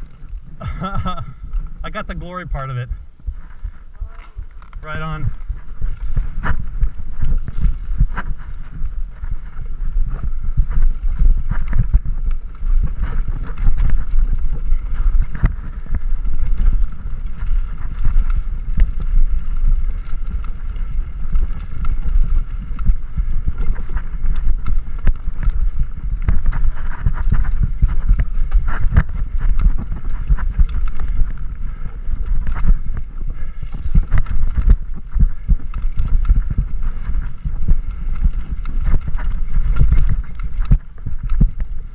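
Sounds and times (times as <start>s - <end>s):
mountain bike rattling and knocking: 0.0s - 41.9s
wind over camera microphone: 0.0s - 41.9s.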